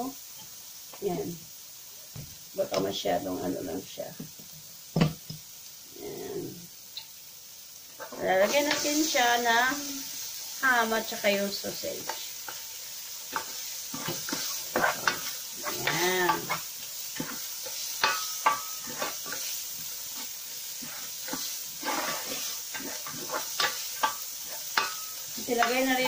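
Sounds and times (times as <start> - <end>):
meat sizzling in oil: 0.0 - 26.0.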